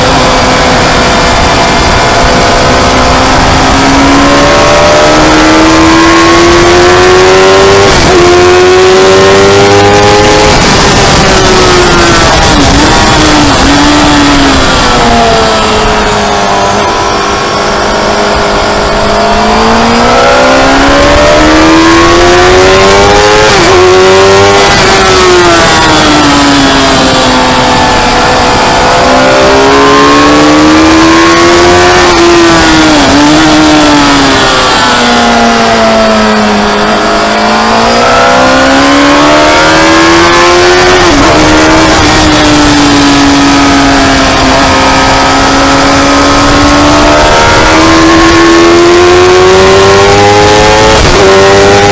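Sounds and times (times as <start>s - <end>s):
motorcycle engine accelerating: 0.0s - 51.9s
steady rush of noise: 0.0s - 51.9s.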